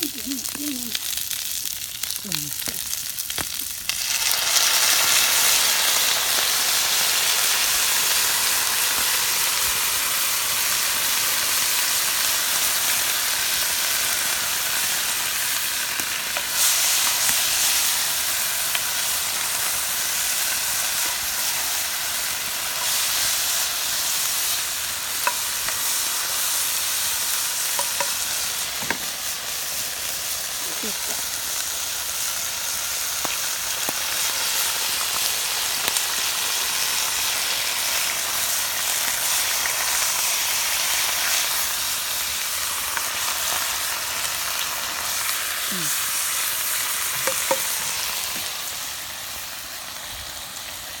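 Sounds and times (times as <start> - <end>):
vegetables sizzling in a frying pan: 0.0 - 51.0.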